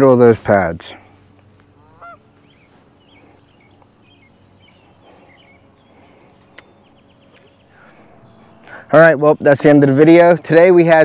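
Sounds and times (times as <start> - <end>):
faint steady hum: 0.0 - 11.0
small birds chirping: 1.0 - 10.9.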